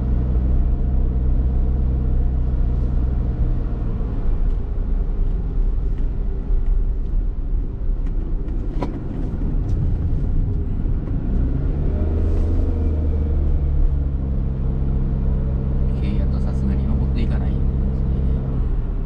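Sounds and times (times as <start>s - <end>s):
car engine droning: 0.0s - 19.0s
road rumble: 0.0s - 19.0s.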